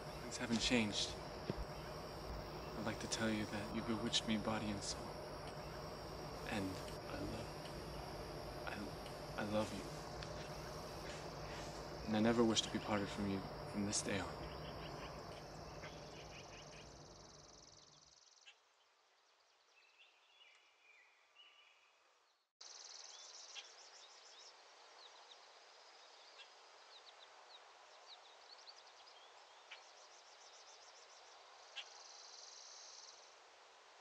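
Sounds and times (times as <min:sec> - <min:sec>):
insects trilling: 0:00.0 - 0:18.6, 0:22.6 - 0:27.2, 0:28.3 - 0:33.3.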